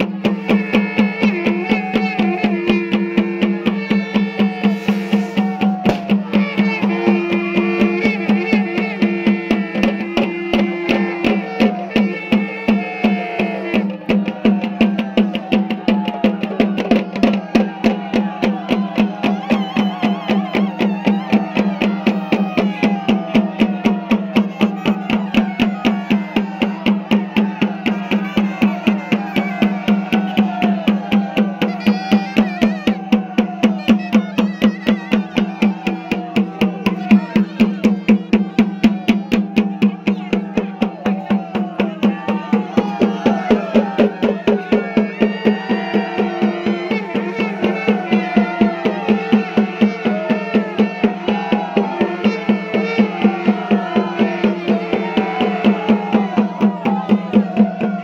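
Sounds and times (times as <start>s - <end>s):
fast festival drumming: 0.0s - 58.0s.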